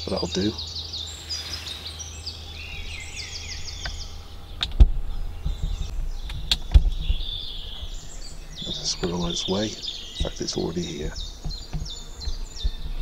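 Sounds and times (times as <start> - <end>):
birds singing trilled phrases: 0.0 - 13.0
low steady rumble: 0.0 - 13.0.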